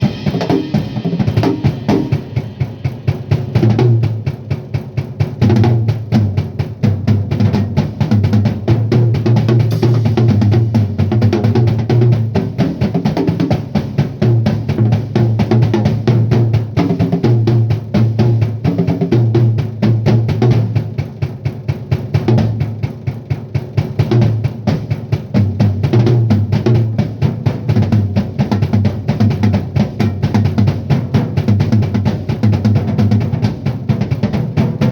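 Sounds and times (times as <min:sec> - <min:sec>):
drum kit groove: 0:00.0 - 0:34.9.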